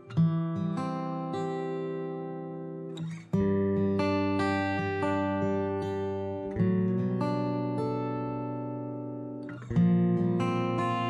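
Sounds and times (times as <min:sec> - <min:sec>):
acoustic guitar strumming and picking: 0:00.0 - 0:11.0.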